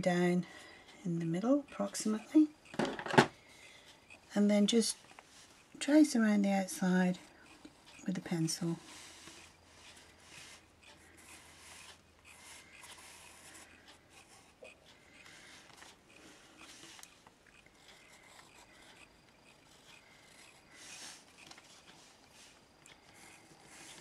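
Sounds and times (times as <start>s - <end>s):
pencil scratching on card: 3.6s - 24.0s.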